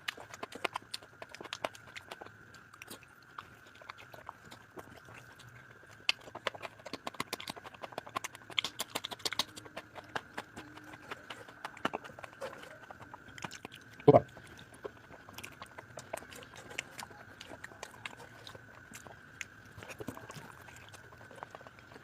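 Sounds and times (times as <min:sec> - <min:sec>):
person chewing and smacking mouth: 0:00.0 - 0:22.0.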